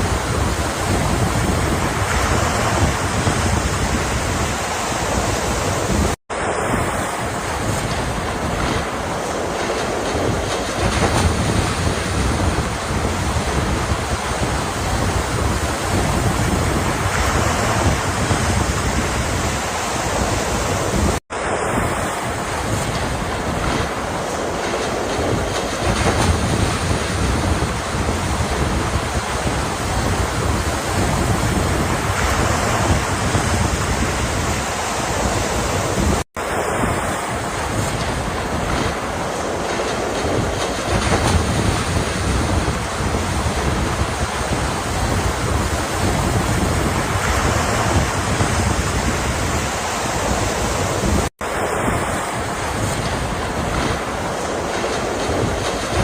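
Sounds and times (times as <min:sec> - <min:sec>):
ocean waves rushing: 0:00.0 - 0:56.0.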